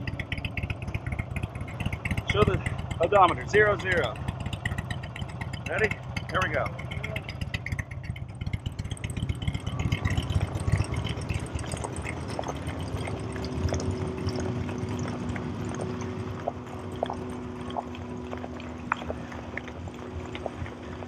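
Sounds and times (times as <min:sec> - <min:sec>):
low hum: 0:00.0 - 0:21.0
measuring wheel rolling on asphalt: 0:00.0 - 0:21.0.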